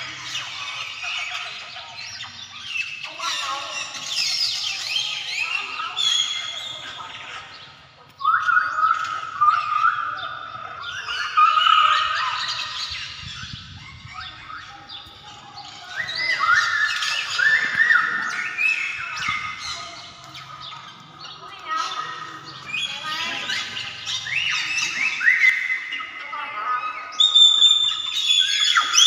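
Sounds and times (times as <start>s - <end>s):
flock of birds squawking: 0.0s - 29.0s.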